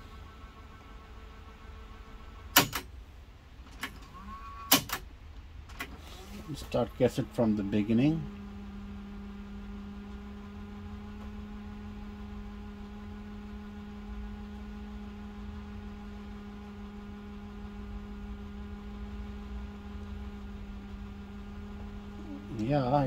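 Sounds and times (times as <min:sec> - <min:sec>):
cassette deck rewinding hum: 0:00.0 - 0:23.0.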